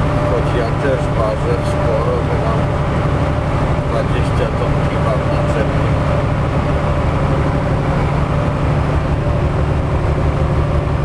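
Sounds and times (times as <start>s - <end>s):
vehicle road and engine drone: 0.0s - 11.0s.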